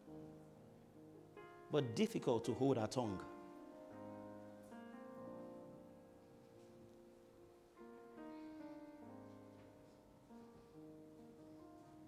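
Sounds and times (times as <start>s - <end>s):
soft slow keyboard chords: 0.0s - 12.0s.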